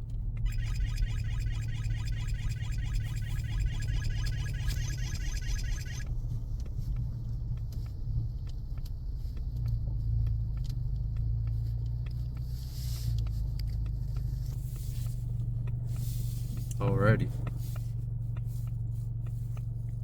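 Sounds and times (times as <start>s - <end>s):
car road and drivetrain rumble: 0.0s - 20.0s
light ticks: 3.0s - 20.0s.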